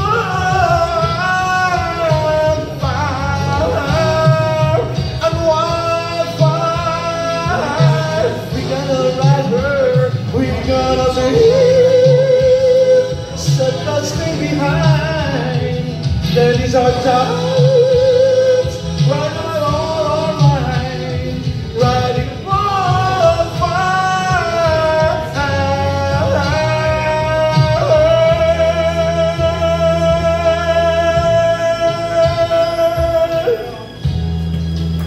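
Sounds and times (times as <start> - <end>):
man singing into microphone: 0.0 - 34.1
backing track music: 0.0 - 35.0.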